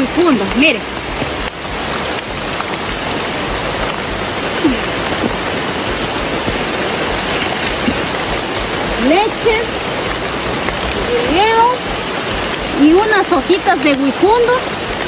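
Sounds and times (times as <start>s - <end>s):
rain on foliage: 0.0s - 15.0s.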